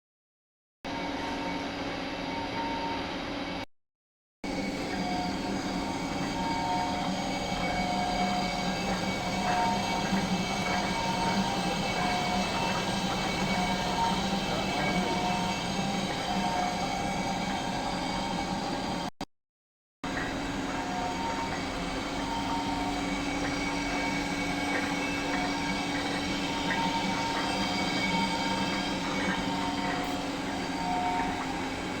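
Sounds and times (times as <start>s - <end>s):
machine-shop machinery running: 4.4s - 19.1s, 20.0s - 32.0s.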